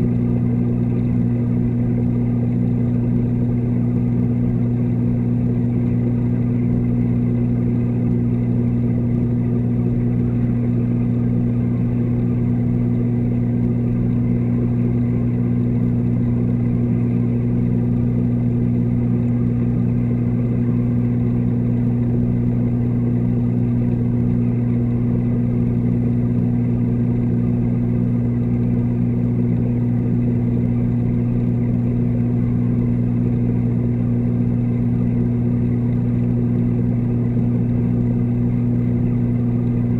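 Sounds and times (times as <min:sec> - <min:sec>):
water pumps humming: 0:00.0 - 0:39.9.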